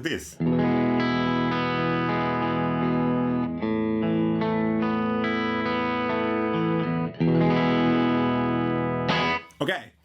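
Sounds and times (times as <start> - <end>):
electric guitar strumming chords: 0.4 - 9.5.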